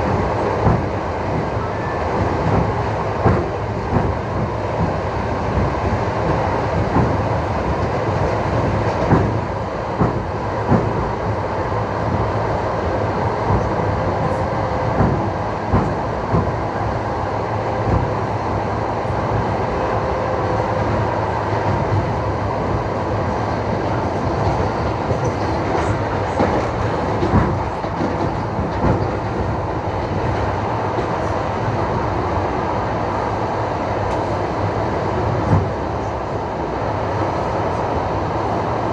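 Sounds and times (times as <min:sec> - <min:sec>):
train running rumble: 0:00.0 - 0:38.9.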